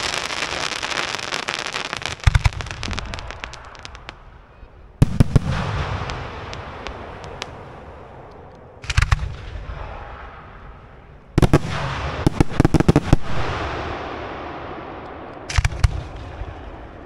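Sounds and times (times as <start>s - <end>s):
fireworks bangs and cracks: 0.0s - 4.4s, 5.0s - 17.0s.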